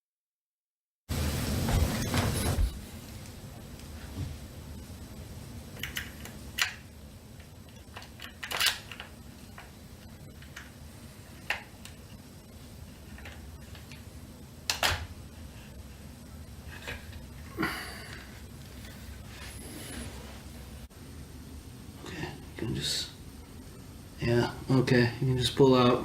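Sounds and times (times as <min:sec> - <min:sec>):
low steady hum: 0:01.1 - 0:26.0.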